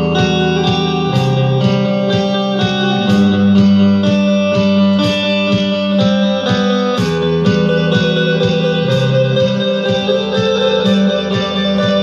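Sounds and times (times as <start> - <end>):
electric guitar single notes: 0.0 - 12.0.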